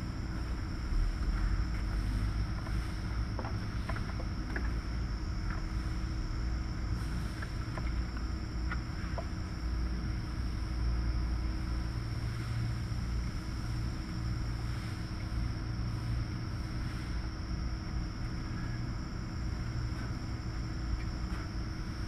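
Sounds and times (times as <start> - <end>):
faint high whine: 0.0 - 22.0
low machinery drone: 0.0 - 22.0.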